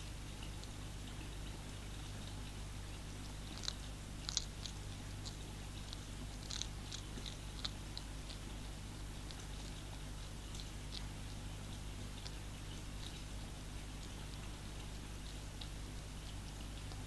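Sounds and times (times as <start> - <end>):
hedgehog crunching dry food: 0.4 - 17.0.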